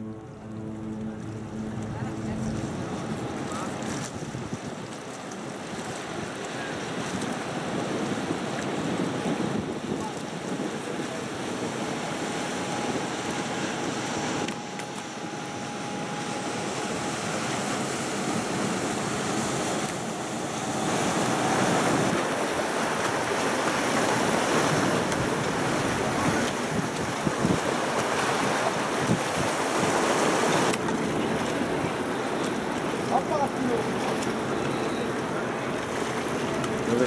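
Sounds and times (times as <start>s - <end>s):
wind buffeting the microphone: 0.0s - 14.5s, 20.7s - 37.0s
water lapping: 0.0s - 37.0s.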